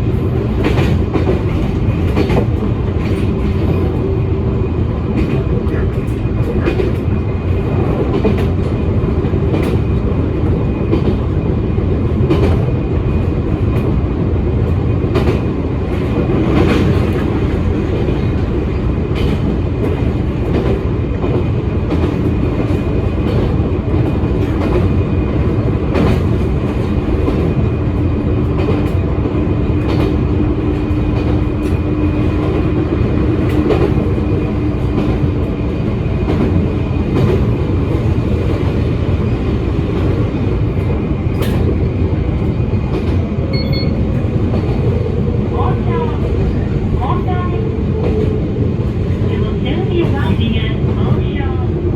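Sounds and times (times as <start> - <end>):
train rolling rumble: 0.0 - 51.9.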